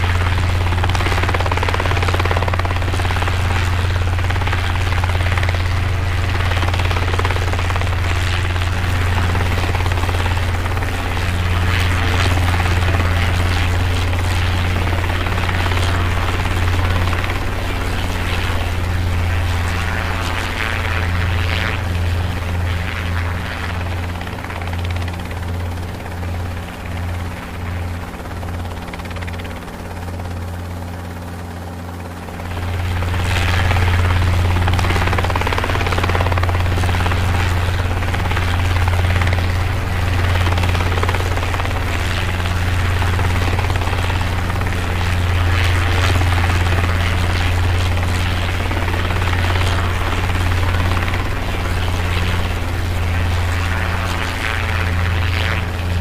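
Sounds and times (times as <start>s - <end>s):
helicopter rotor beat: 0.0s - 56.0s.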